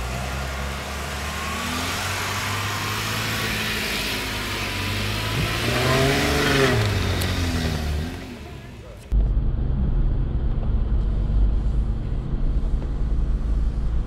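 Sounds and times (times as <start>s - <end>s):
car engine climbing slope: 0.0s - 14.0s.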